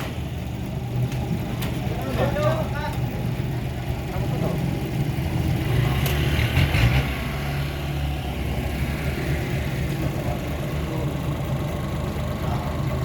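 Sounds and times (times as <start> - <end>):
heavy engine running: 0.0 - 13.0.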